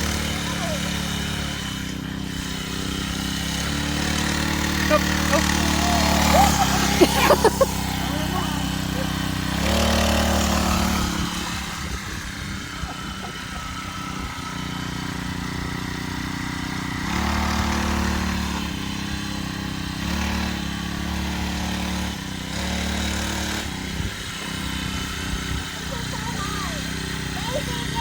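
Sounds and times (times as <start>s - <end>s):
small motorbike engine revving: 0.0s - 28.0s.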